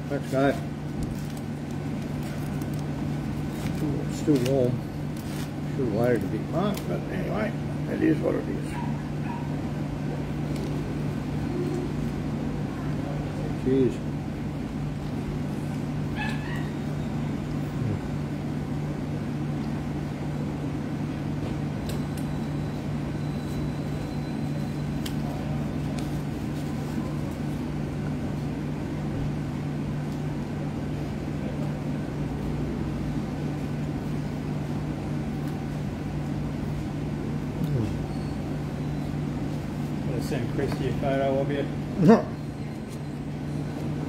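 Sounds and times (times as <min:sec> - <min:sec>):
appliance humming: 0:00.0 - 0:44.0.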